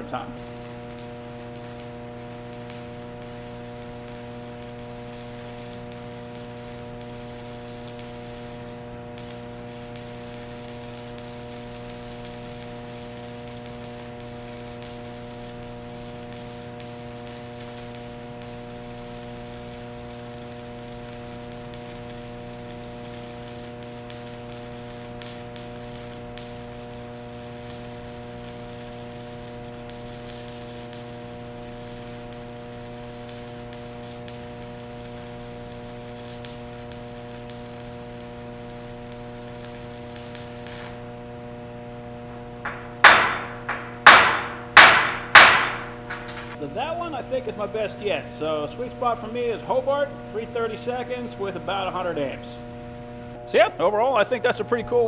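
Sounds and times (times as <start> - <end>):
welding arc hissing: 0.0 - 41.5, 42.1 - 52.4
electrical hum: 0.0 - 55.0.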